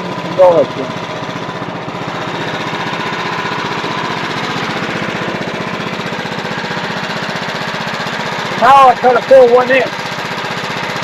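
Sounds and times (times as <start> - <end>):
band sawmill engine pulsing: 0.0 - 11.0.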